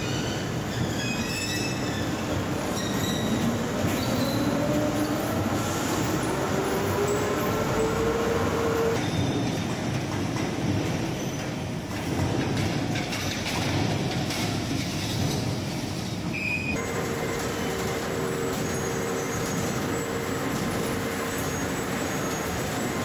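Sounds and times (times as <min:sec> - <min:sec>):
heavy mechanical rumble of rollers: 0:00.0 - 0:23.0.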